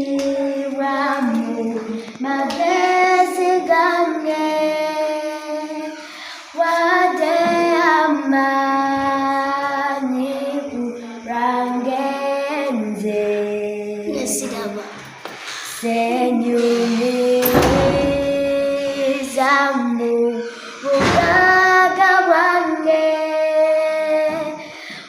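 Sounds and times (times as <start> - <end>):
person singing gospel song: 0.0 - 25.0.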